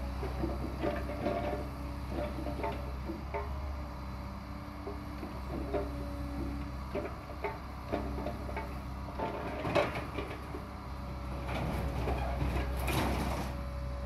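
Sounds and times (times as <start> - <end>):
engine low drone: 0.0 - 14.0.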